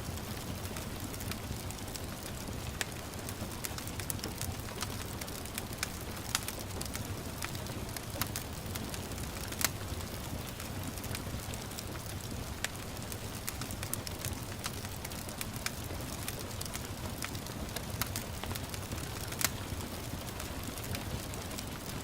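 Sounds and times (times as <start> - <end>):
gentle rain: 0.0 - 22.0
wood fire crackling: 0.0 - 22.0.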